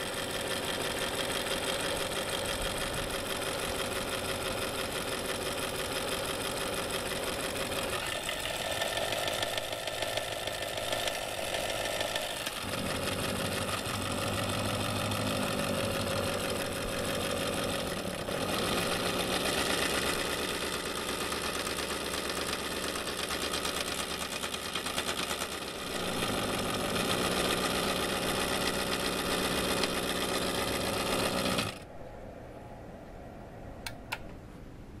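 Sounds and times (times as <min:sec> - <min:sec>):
toy electric motor buzzing rattle: 0:00.0 - 0:31.8.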